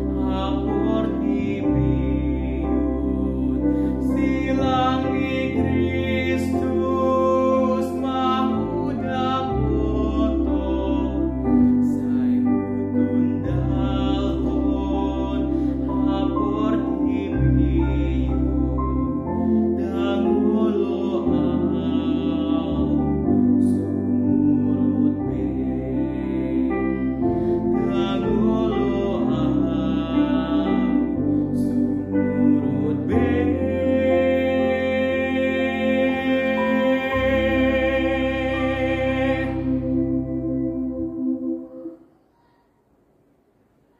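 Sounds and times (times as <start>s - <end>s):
young man singing: 0.0s - 40.0s
sustained low chords: 0.0s - 42.0s.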